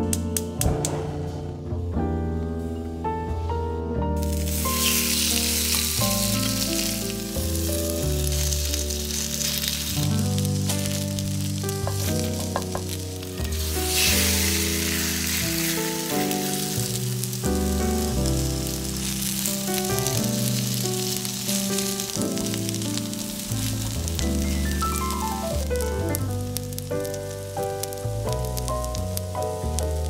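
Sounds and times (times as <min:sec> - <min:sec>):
background music: 0:00.0 - 0:30.0
food sizzling in a frying pan: 0:04.2 - 0:30.0.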